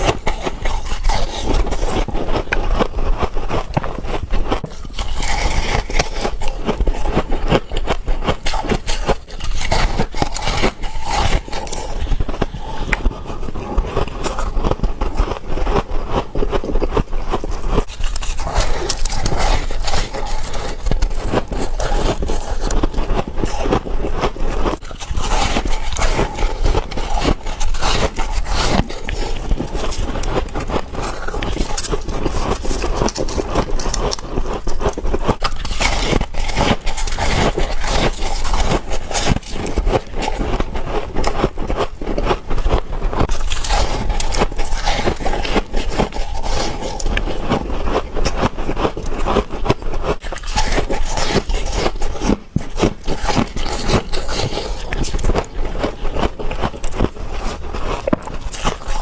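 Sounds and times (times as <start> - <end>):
crunching bites of frost: 0.0 - 59.0.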